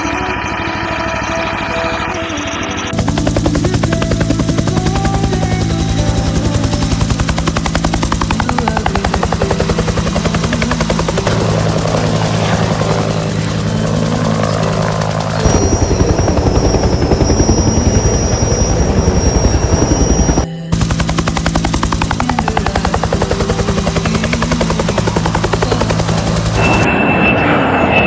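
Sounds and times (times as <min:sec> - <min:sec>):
low hum: 0:00.0 - 0:28.0
pulsing vehicle engine: 0:00.0 - 0:28.0.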